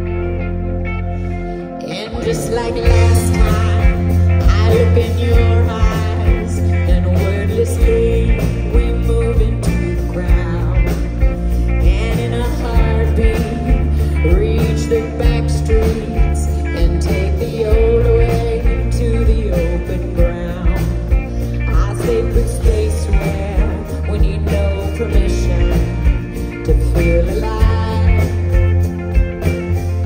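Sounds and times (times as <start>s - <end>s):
pop-rock band playing: 0.0s - 30.0s
woman singing into microphone: 1.8s - 28.8s.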